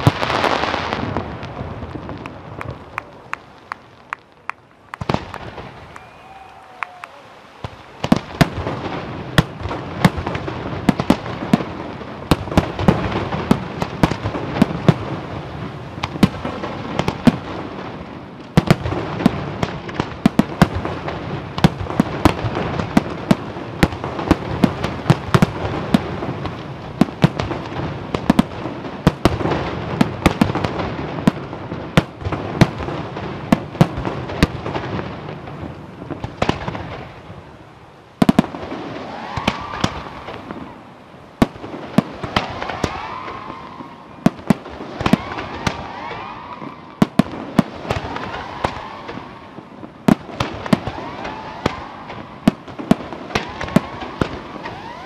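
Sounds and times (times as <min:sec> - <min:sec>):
fireworks bangs: 0:00.0 - 0:55.0
fireworks rumble: 0:00.0 - 0:55.0.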